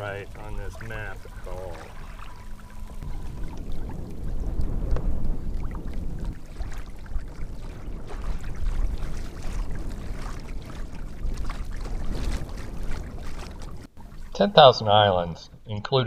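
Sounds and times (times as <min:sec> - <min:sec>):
water lapping against kayak hull: 0:00.0 - 0:15.7
wind buffeting microphone: 0:00.0 - 0:15.7.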